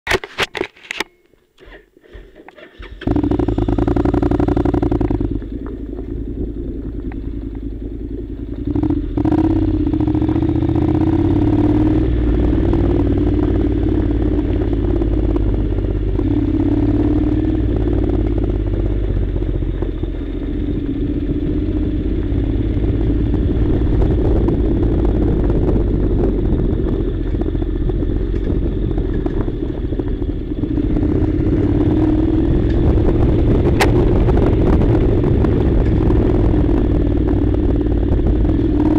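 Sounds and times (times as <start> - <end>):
motorcycle engine running: 2.6 - 38.9.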